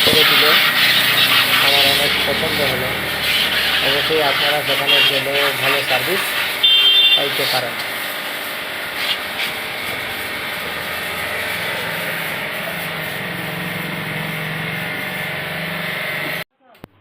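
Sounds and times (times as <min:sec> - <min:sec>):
pressure washer motor hum: 0:00.0 - 0:16.4
water jet hissing: 0:00.0 - 0:16.4.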